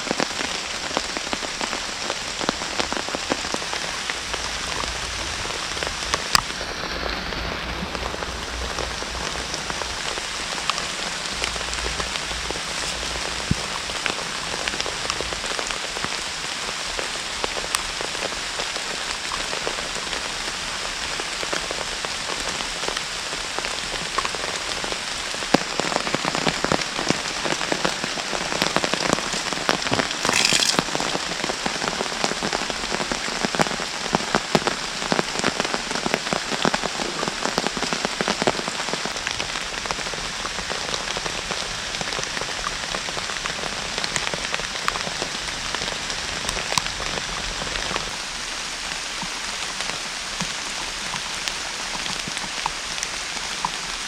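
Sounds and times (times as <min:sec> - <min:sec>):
rain falling in woodland: 0:00.0 - 0:54.0
raindrops striking close by: 0:00.0 - 0:54.0.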